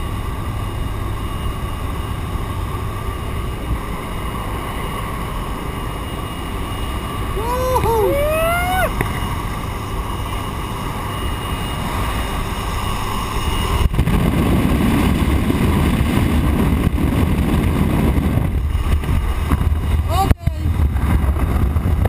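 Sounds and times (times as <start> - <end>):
light aircraft engine roar: 0.0 - 22.0.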